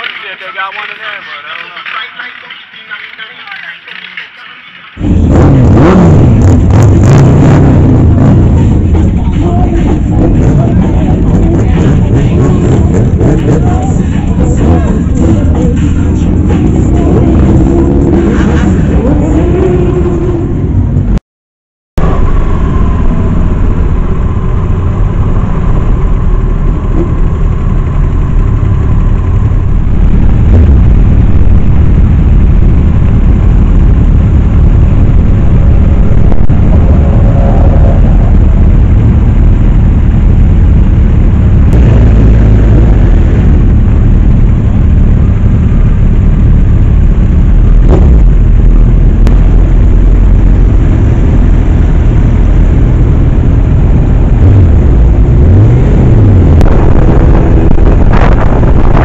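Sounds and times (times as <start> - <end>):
motorcycle engines rumbling: 0.0 - 21.2, 22.0 - 59.0.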